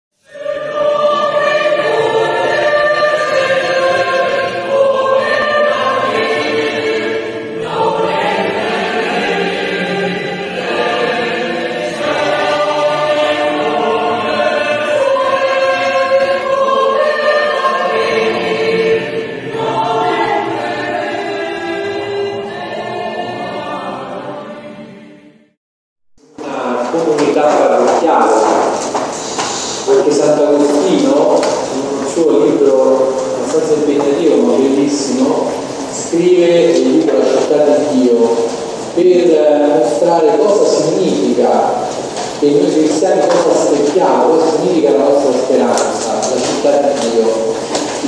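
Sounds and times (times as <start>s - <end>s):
choir singing sustained notes: 0.2s - 25.6s, 26.2s - 48.0s.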